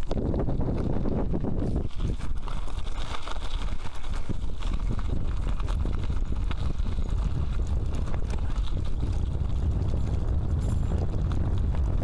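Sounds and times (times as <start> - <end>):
bicycle clicking and rattling: 0.0 - 12.0
wind noise on microphone: 0.0 - 12.0.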